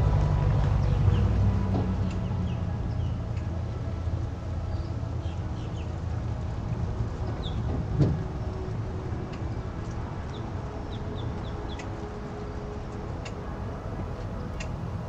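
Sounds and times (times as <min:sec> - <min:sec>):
truck and trailer rumbling: 0:00.0 - 0:15.0.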